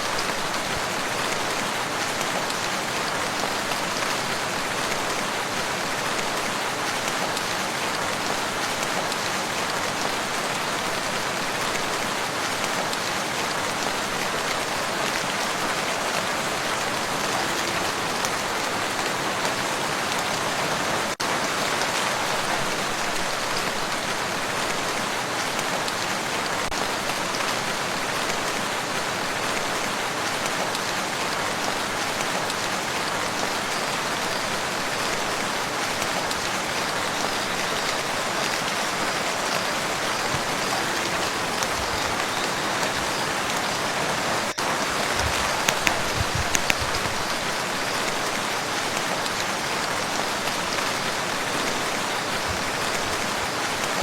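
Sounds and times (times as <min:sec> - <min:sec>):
rain falling on lake: 0:00.0 - 0:54.0.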